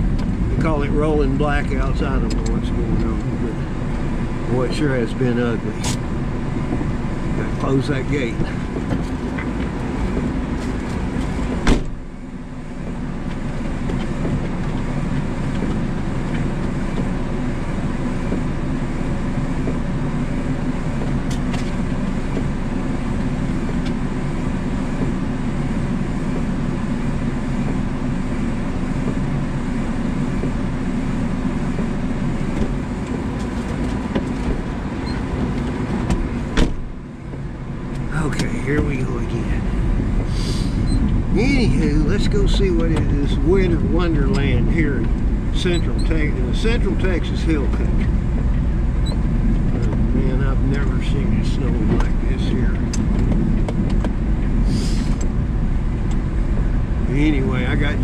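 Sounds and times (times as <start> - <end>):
small truck engine running: 0.0 - 58.0.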